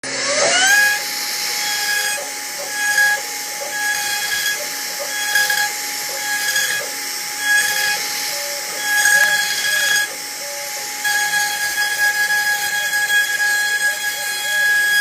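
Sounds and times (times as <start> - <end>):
machine motor whining: 0.0 - 15.0.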